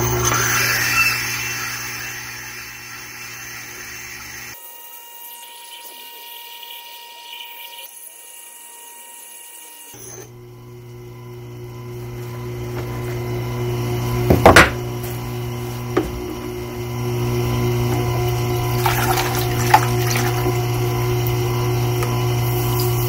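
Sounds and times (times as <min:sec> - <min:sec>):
sharpening machine motor humming: 0:00.0 - 0:23.0.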